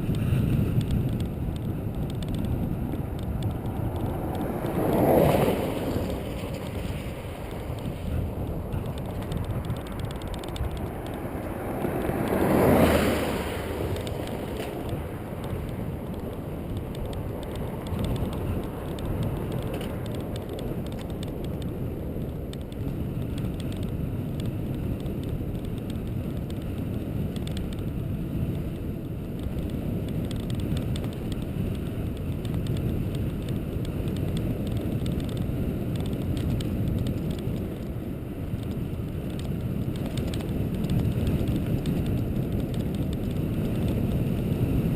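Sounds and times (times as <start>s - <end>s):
low rumble of road and wind: 0.0s - 44.9s.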